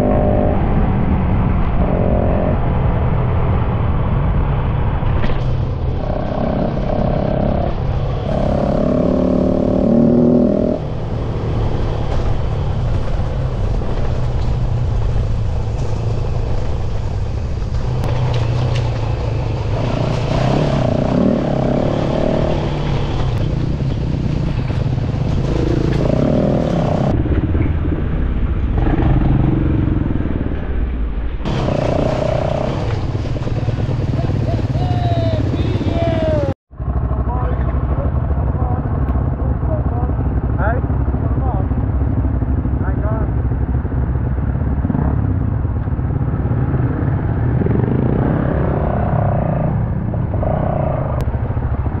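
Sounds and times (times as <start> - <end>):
motorcycle engine revving: 0.0 - 30.6, 31.4 - 52.0.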